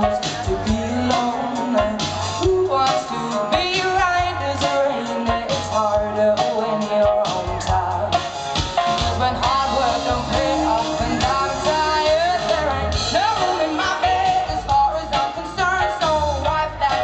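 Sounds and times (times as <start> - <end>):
woman singing into a microphone: 0.0 - 8.4, 9.0 - 17.0
band with bass guitar and drums: 0.0 - 17.0.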